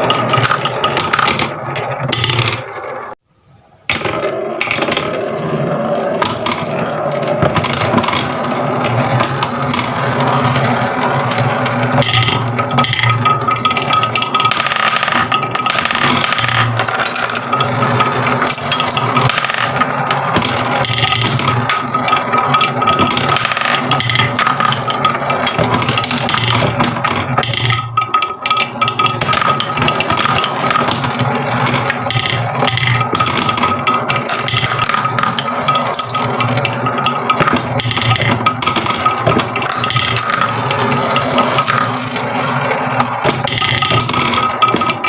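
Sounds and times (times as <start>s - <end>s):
marbles rattling down wooden tracks: 0.0s - 2.8s, 3.9s - 45.0s.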